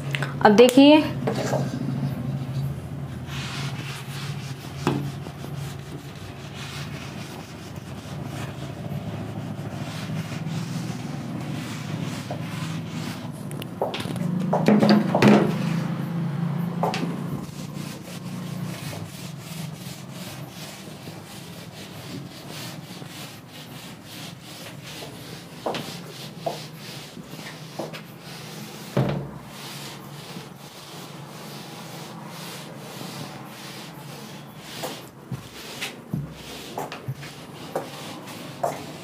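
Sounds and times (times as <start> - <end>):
eraser rubbing on whiteboard: 3.2 - 14.2, 16.8 - 39.0.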